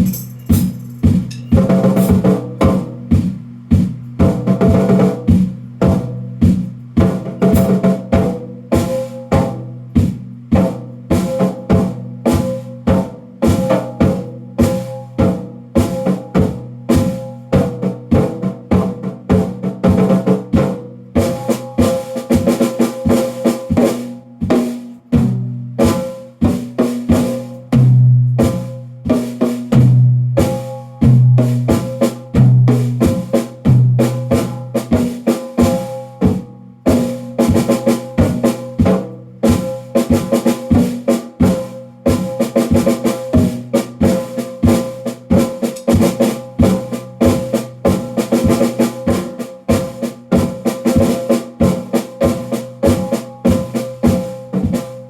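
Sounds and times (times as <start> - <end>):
drum kit playing: 0.0 - 55.0.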